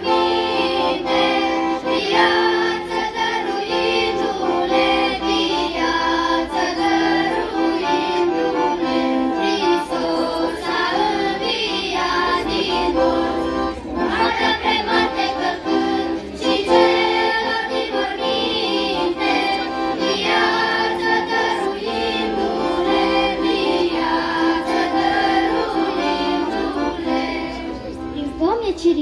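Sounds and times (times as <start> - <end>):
children's choir singing: 0.0 - 28.1.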